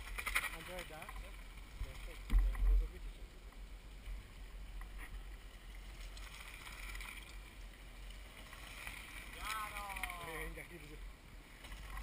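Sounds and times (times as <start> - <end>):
soft hiss: 0.0 - 12.0.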